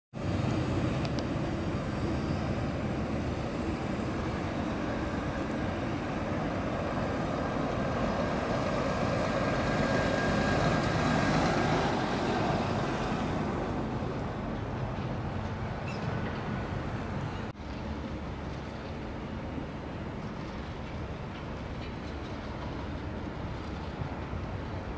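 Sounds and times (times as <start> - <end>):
street traffic: 0.2 - 24.9
tram wheels rumbling on track: 0.2 - 24.9.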